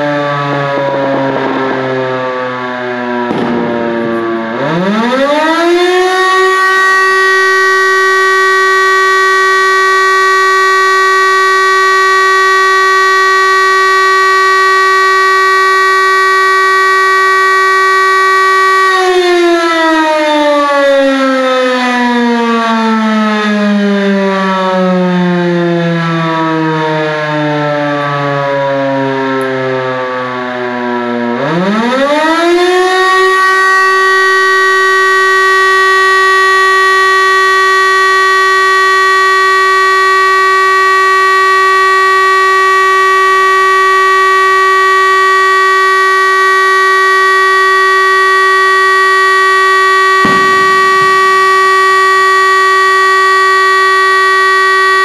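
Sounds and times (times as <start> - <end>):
siren wailing: 0.0 - 55.0.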